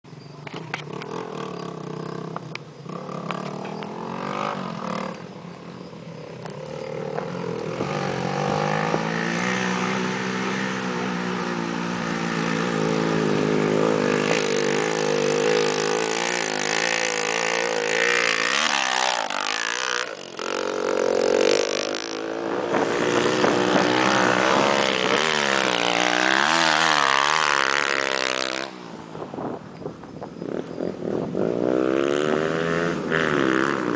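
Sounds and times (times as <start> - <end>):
motorcycle engine revving hard: 0.8 - 5.2, 6.6 - 29.0, 30.4 - 33.9.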